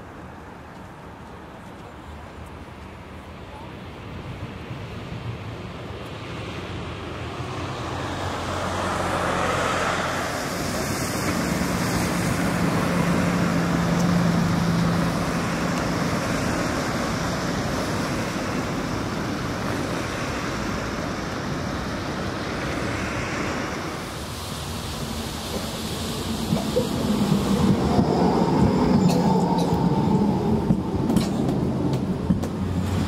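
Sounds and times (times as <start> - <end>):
road traffic noise: 0.0 - 33.0
vehicle passing: 6.3 - 33.0.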